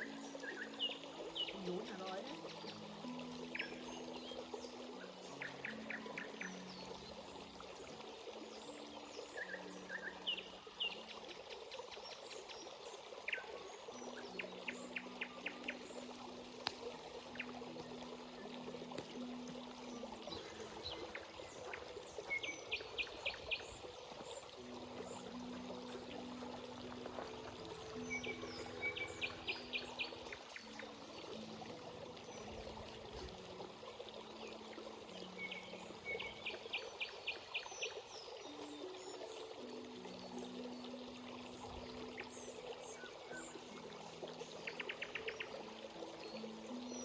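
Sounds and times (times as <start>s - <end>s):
stream water trickling over rocks: 0.0s - 47.0s.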